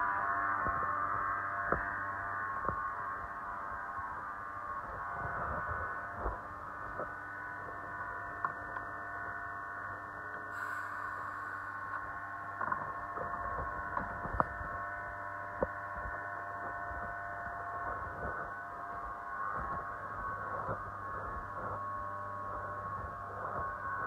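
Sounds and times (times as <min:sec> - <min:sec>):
steady hum of held tones: 0:00.0 - 0:24.0.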